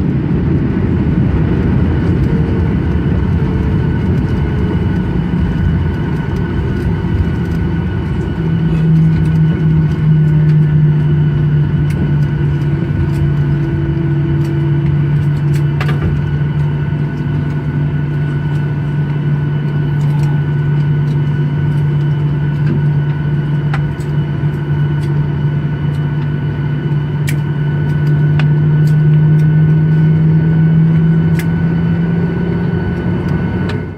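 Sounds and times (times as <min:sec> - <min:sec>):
jet engine cabin drone: 0:00.0 - 0:33.9.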